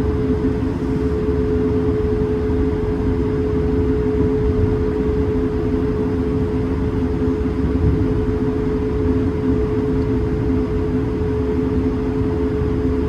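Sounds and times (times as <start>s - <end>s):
cabin rumble and airflow hiss: 0.0s - 13.0s
jet engine hums: 0.0s - 13.0s.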